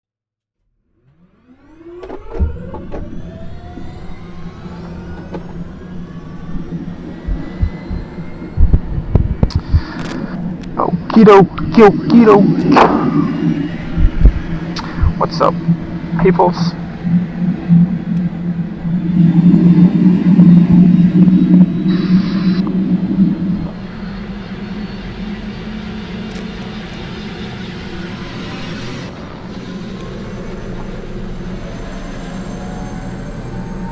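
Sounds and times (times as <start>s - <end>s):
helicopter turbine whine: 1.0s - 33.9s
steady low hum: 2.7s - 33.4s.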